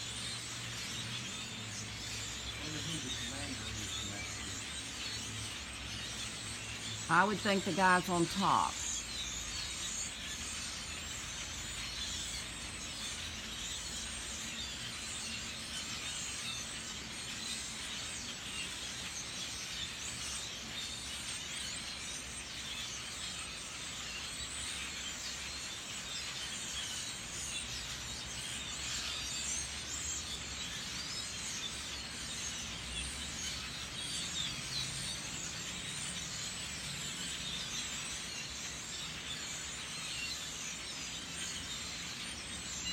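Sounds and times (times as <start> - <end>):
flock of birds chirping: 0.0 - 42.9.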